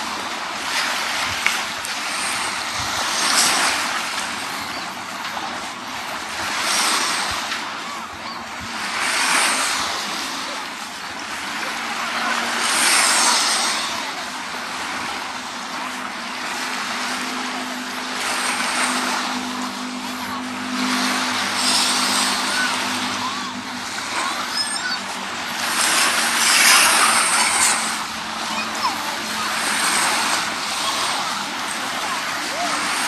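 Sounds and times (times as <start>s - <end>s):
motor engine hum: 0.0s - 33.0s
waves washing on sandy beach: 0.0s - 33.0s.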